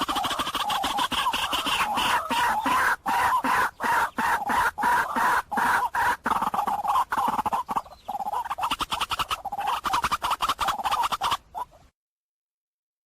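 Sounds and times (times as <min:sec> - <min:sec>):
waterhen harsh call notes: 0:00.0 - 0:11.8.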